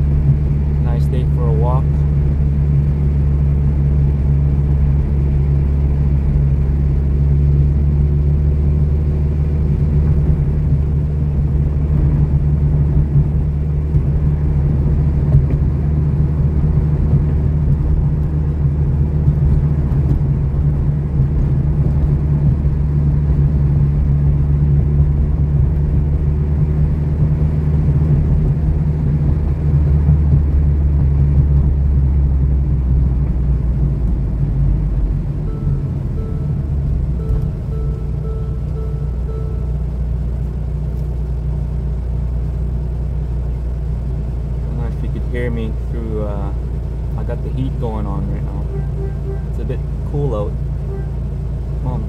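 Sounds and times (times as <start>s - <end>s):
car engine droning: 0.0s - 52.0s
tyre and road noise: 0.0s - 52.0s.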